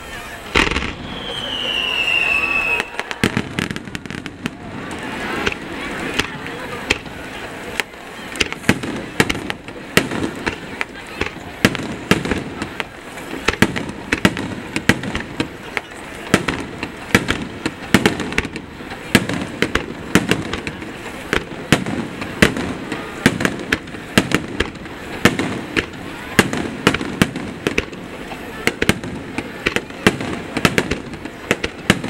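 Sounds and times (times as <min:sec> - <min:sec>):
fireworks bursting with sharp bangs: 0:00.0 - 0:32.0.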